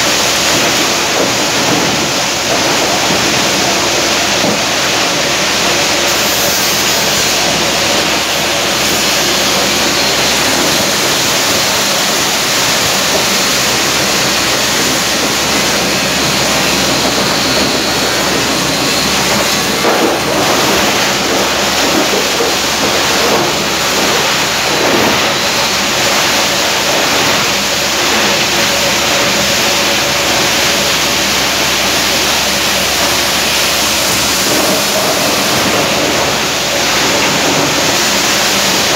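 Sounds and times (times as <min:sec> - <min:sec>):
plastic crushing machine grinding: 0:00.0 - 0:38.9.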